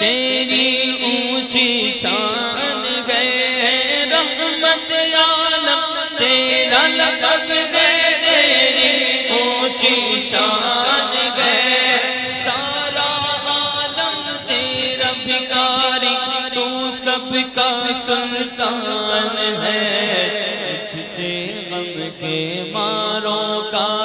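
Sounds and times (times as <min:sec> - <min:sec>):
person singing devotional song: 0:00.0 - 0:24.0.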